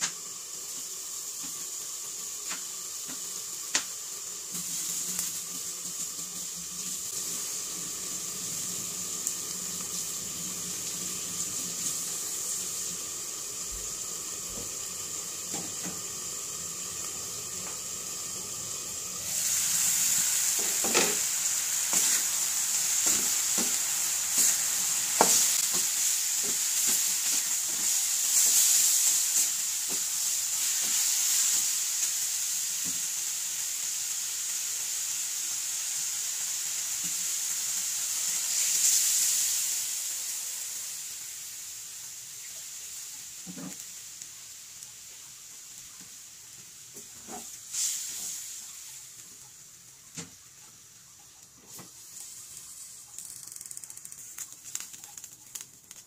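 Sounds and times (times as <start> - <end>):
pork sizzling in a wok: 0.0 - 56.0.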